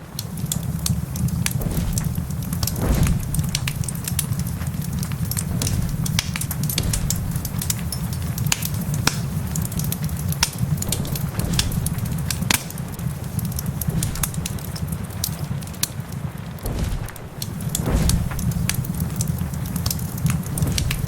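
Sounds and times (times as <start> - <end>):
sharp pops of fire: 0.0 - 21.0
wood fire crackling: 0.0 - 21.0
low rumble: 1.1 - 9.8, 10.6 - 15.5, 16.4 - 21.0.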